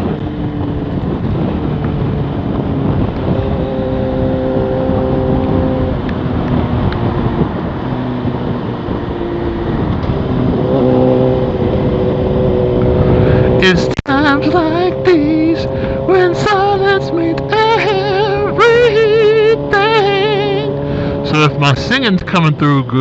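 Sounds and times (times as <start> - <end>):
wind rush: 0.0 - 22.6
motorcycle engine cruising: 0.0 - 23.0.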